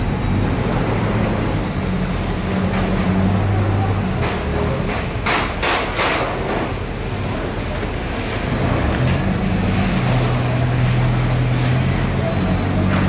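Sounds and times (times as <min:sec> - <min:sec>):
boat engine humming: 0:00.0 - 0:05.6, 0:06.3 - 0:13.0.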